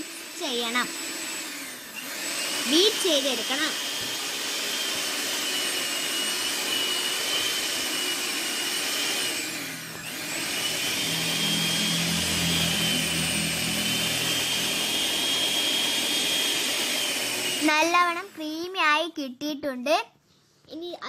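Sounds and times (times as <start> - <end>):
electric hand mixer running: 0.0 - 18.7.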